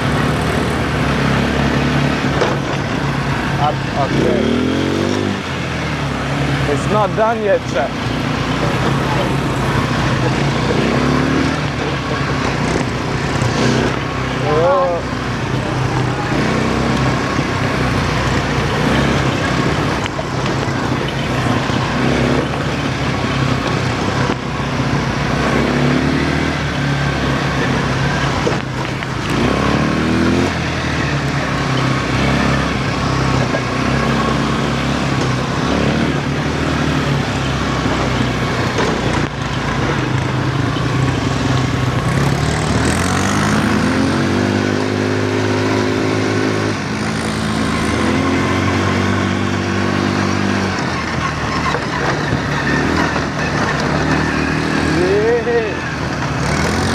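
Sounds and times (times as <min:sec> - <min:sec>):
quad bike engine revving: 0:00.0 - 0:56.9
terrain noise: 0:00.0 - 0:56.9.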